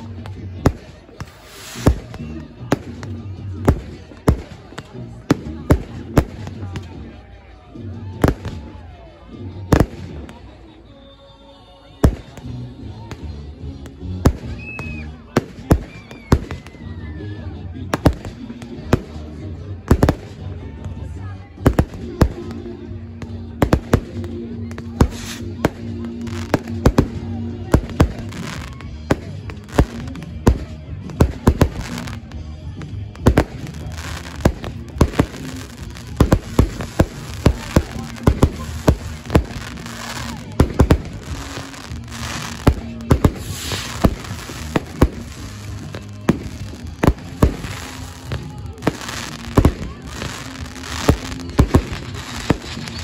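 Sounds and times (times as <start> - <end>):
fireworks bursting with sharp bangs: 0.0 - 7.4, 8.0 - 10.6, 12.0 - 17.1, 17.9 - 53.0.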